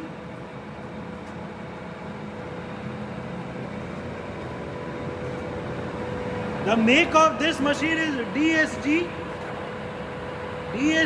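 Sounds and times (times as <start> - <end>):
lathe motor humming and whining: 0.0 - 11.0.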